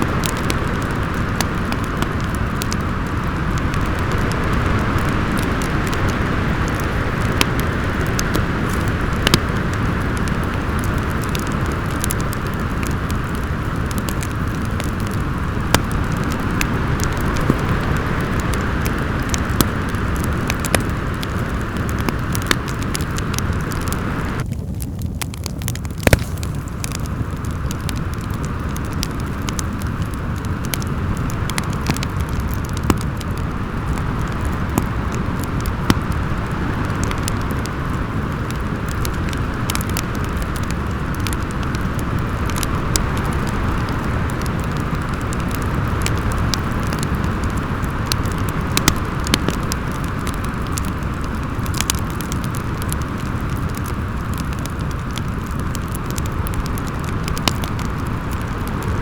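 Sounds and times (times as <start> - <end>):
crackling wood fire: 0.0 - 59.0
storm wind howling: 0.0 - 59.0.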